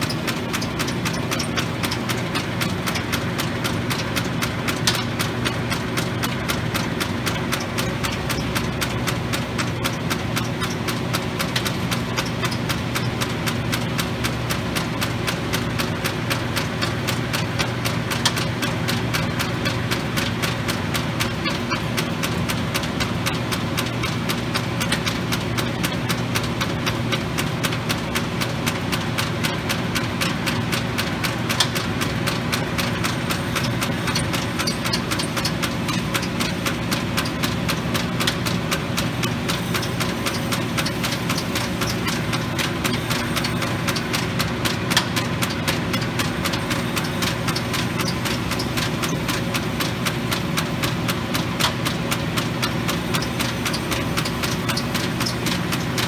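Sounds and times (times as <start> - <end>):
fast regular ticking: 0.0 - 56.0
grinder motor hum: 0.0 - 56.0.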